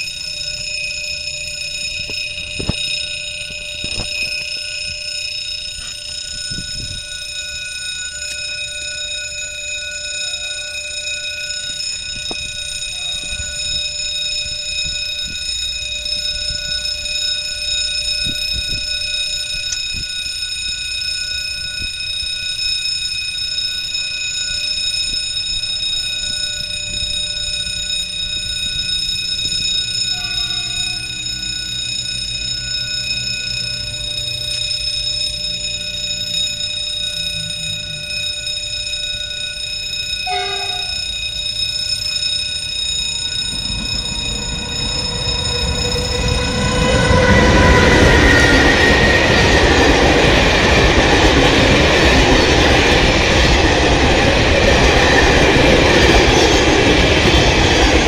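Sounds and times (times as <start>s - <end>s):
level-crossing warning bell: 0.0s - 58.0s.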